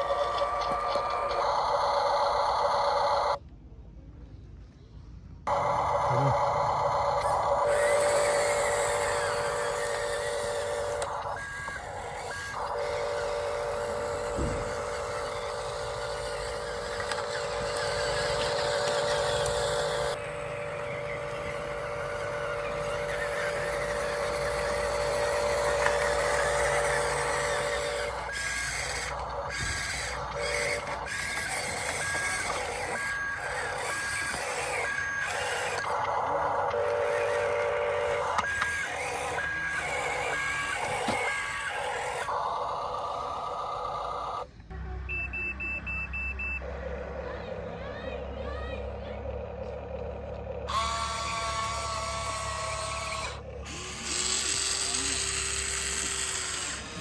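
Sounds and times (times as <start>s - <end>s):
toy electric motors whining: 0.0s - 3.4s, 5.5s - 44.8s, 46.1s - 57.0s.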